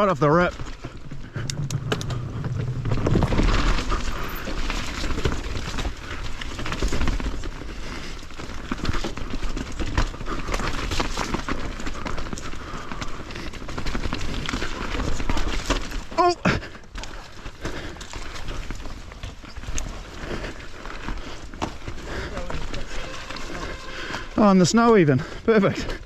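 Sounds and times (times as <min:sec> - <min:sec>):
bike rattling and clicking: 0:00.0 - 0:26.0
tyres rolling over wet ground: 0:00.0 - 0:26.0.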